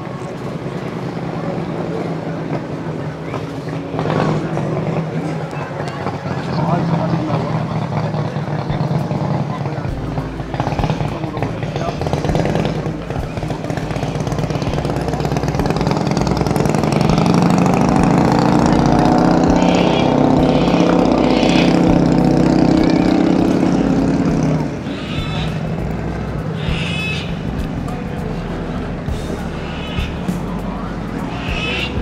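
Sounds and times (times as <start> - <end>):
vehicle engine running at low revs: 0.0 - 32.0.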